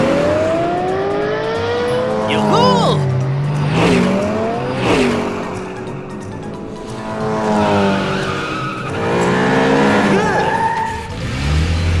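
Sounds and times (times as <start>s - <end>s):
background music: 0.0s - 12.0s
cartoon engines revving: 0.0s - 12.0s.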